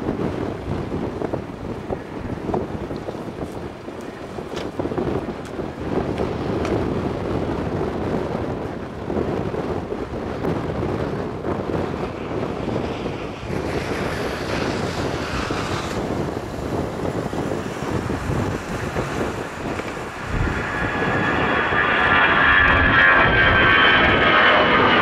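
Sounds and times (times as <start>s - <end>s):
jet aircraft engine noise: 0.0s - 25.0s
wind buffeting microphone: 0.0s - 25.0s.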